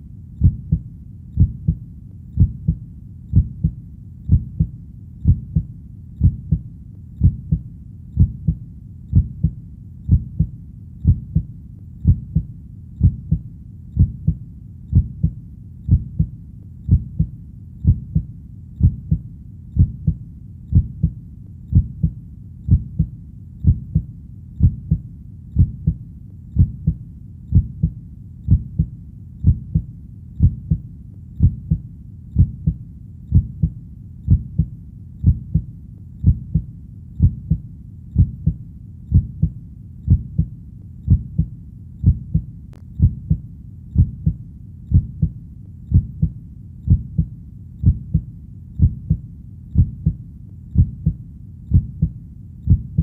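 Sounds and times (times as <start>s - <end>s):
heartbeat: 0.0s - 53.0s.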